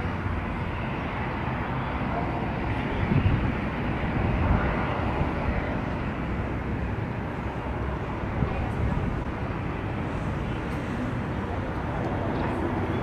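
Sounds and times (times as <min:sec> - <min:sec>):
jet engines distant rumble: 0:00.0 - 0:13.0
low irregular buffeting: 0:00.0 - 0:13.0.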